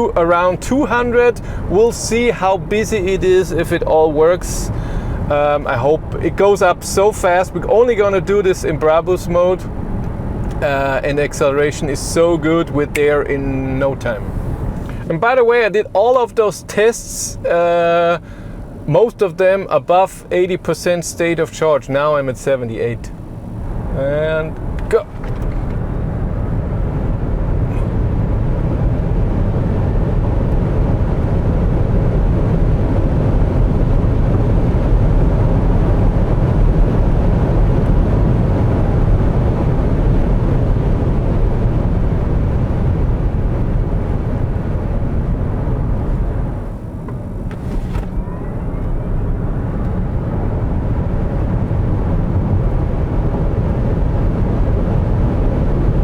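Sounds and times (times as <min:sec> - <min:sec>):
road and wind noise in car: 0:00.0 - 0:56.0.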